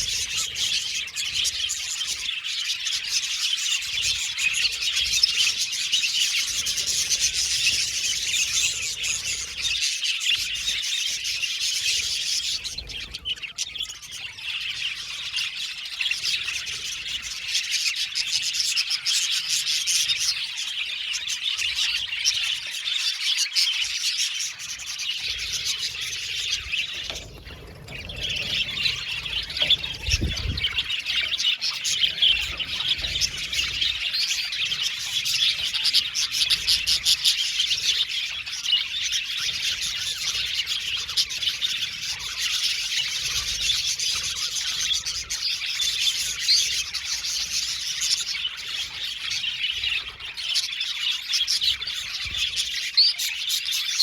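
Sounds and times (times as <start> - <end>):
budgies chattering and chirping: 0.0 - 54.0.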